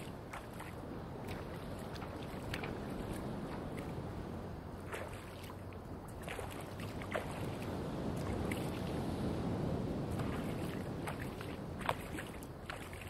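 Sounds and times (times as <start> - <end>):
small water splashes: 0.0 - 4.1, 4.8 - 9.0, 10.1 - 13.0
water rushing: 0.0 - 13.0.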